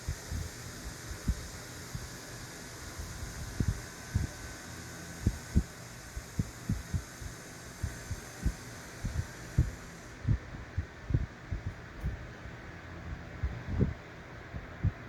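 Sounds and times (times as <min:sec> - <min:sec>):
steady hiss: 0:00.0 - 0:12.4.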